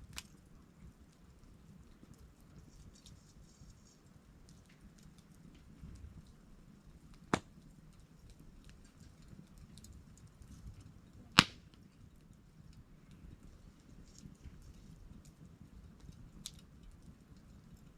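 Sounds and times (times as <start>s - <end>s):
burning wood popping: 0.0s - 17.9s
campfire crackling: 0.0s - 17.9s.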